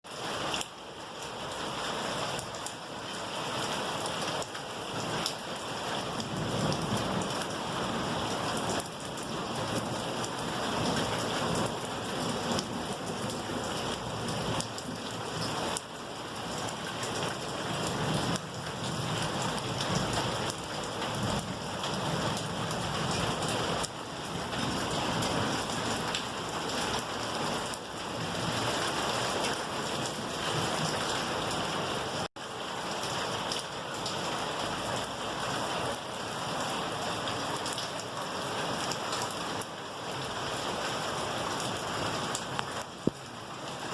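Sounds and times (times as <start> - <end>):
rain falling: 0.1 - 43.9
raindrops striking surfaces: 0.1 - 43.9.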